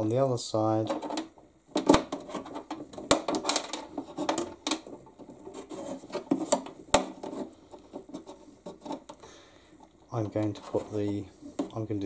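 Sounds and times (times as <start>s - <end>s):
hands rustling wires: 0.7s - 12.0s.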